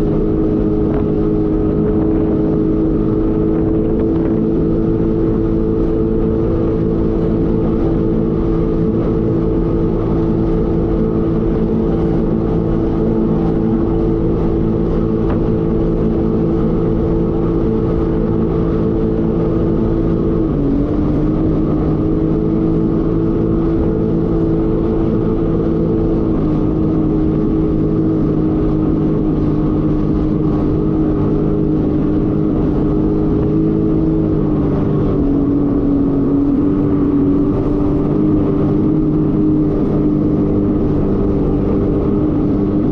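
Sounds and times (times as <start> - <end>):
jet ski engine running: 0.0 - 42.9.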